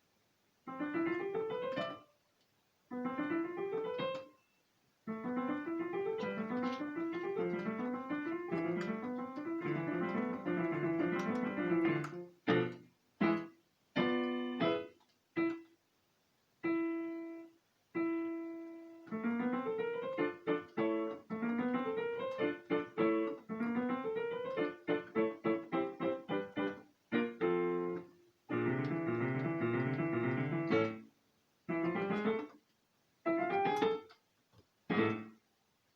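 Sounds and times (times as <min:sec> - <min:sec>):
solo piano fast piece: 0:00.7 - 0:02.1, 0:02.9 - 0:04.4, 0:05.0 - 0:15.7, 0:16.6 - 0:32.6, 0:33.2 - 0:34.2, 0:34.8 - 0:35.4.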